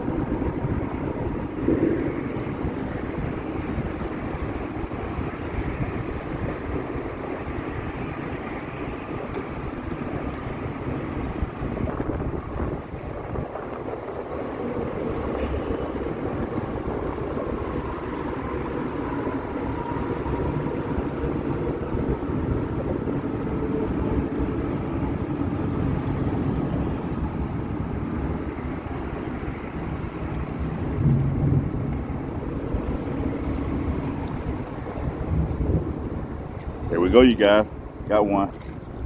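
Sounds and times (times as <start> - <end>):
road traffic rumbling overhead: 0.0 - 39.0.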